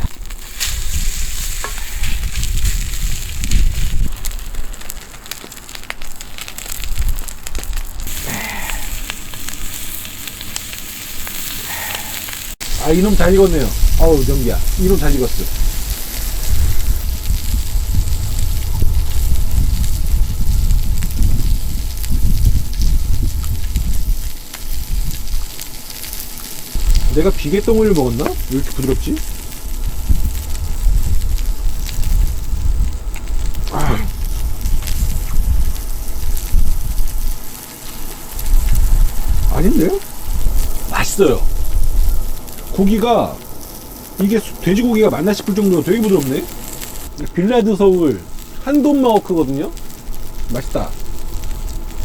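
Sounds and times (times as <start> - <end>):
wind rumble on microphone: 0.0 - 10.4, 12.6 - 45.0, 49.6 - 52.0
meat sizzling in a hot pan: 0.0 - 52.0.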